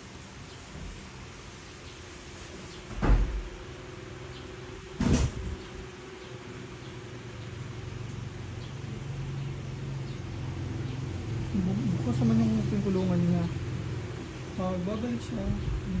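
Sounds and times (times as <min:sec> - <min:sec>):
steady low hum: 0:00.8 - 0:16.0.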